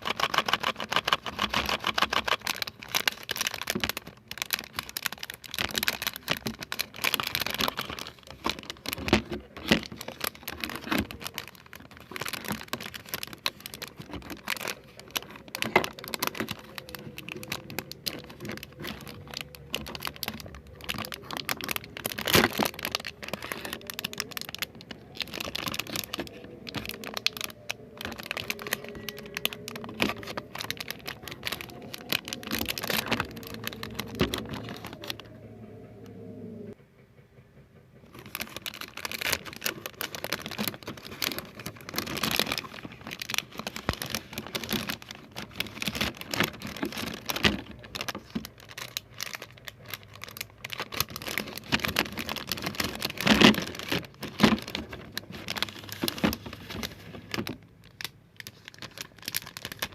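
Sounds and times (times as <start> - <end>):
crinkling tapping and clicking: 0.0 - 35.9, 38.0 - 59.9.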